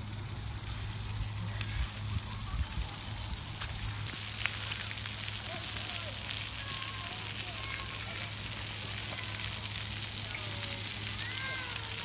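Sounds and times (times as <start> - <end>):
water jets spraying on concrete: 0.0 - 12.0.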